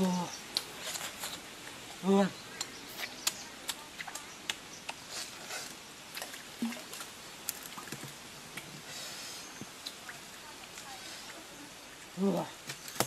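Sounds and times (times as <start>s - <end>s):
soft background hiss: 0.0s - 13.0s.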